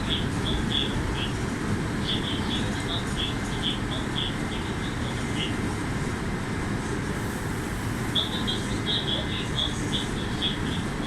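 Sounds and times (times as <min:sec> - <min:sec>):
train running low rumble: 0:00.0 - 0:11.0.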